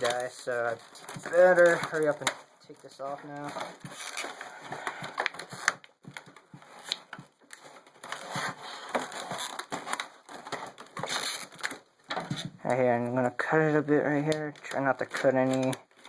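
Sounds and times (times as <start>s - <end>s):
plastic packaging crackling: 0.0s - 16.0s.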